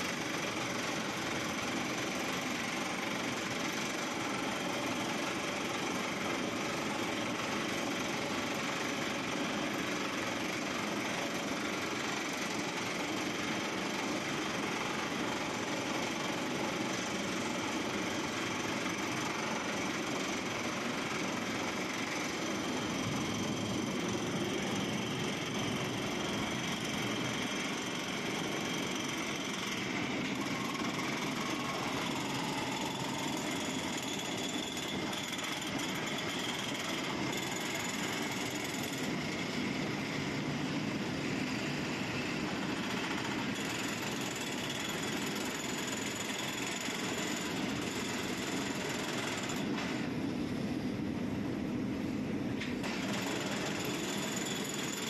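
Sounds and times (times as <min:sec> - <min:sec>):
drill hammering with rapid rattle: 0:00.0 - 0:50.1, 0:52.8 - 0:55.0.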